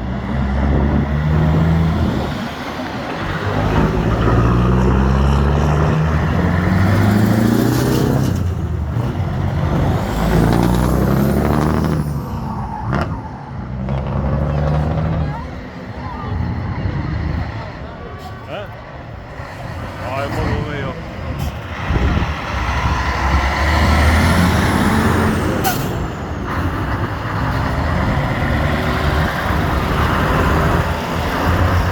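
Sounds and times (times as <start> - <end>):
truck engines driving past: 0.0 - 31.9.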